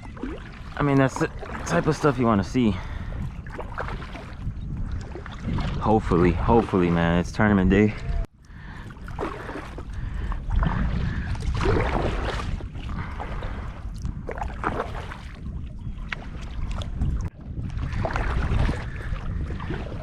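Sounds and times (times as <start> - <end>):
water sloshing around kayak: 0.0 - 20.0
wind rumbling on microphone: 0.0 - 20.0.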